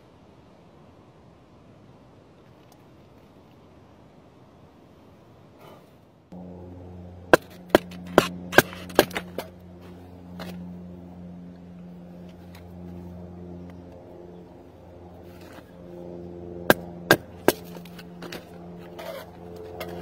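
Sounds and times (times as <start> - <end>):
steady low hum: 3.9 - 20.0.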